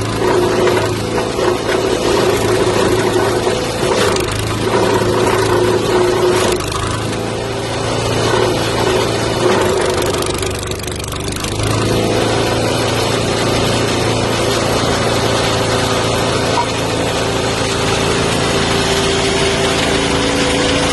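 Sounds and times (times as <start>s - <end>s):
wood chipper engine running: 0.0s - 20.9s.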